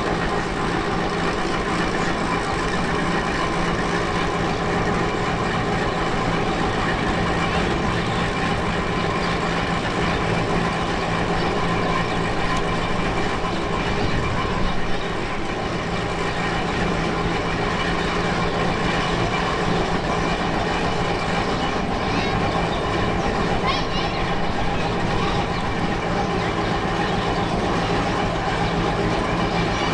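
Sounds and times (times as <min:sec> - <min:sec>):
vehicle running rumble: 0:00.0 - 0:29.9.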